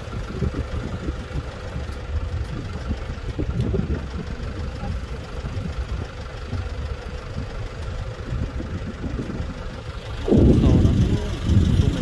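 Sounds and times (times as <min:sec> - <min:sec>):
ferry engine rumbling: 0:00.0 - 0:12.0.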